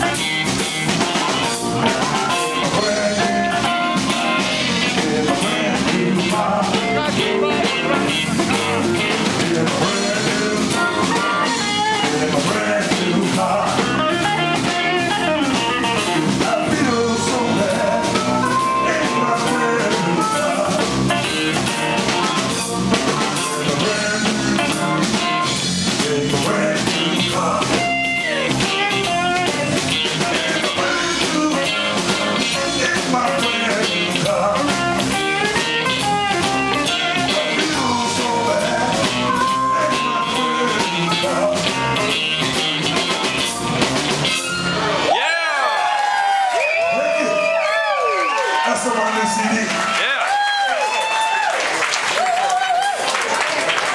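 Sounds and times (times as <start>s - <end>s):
harmonica lead: 0.0s - 45.1s
blues band playing: 0.0s - 53.9s.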